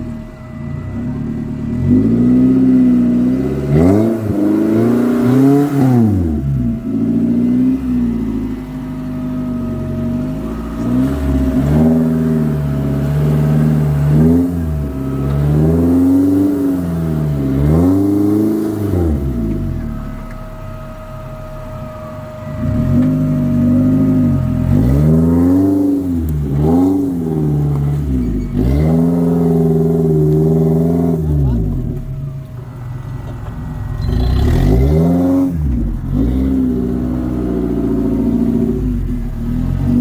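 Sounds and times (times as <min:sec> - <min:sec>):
engine revving under load: 0:00.0 - 0:40.0.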